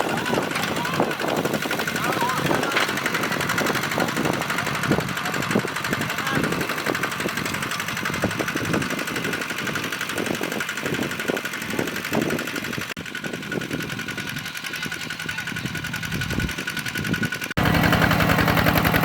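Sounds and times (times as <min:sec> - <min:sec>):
diesel engine knocking: 0:00.0 - 0:19.0.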